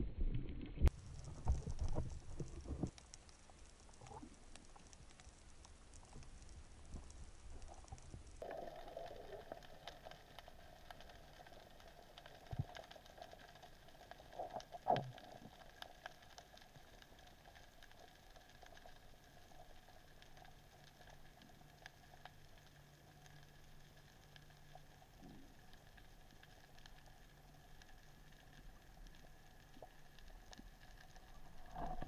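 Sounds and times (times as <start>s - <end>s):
small clicks and crackles: 0.0s - 32.0s
low underwater hiss: 0.6s - 32.0s.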